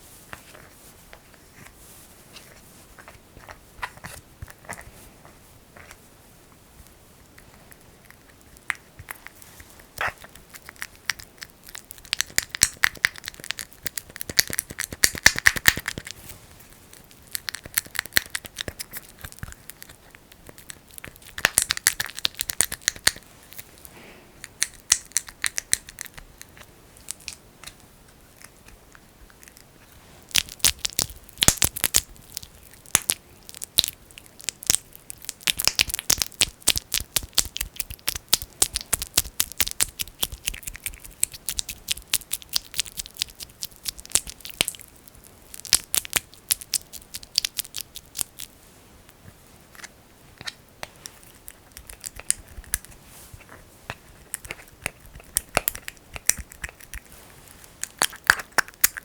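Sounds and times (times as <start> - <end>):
fingers rubbing sticky jelly: 7.3 - 48.6, 49.7 - 59.0.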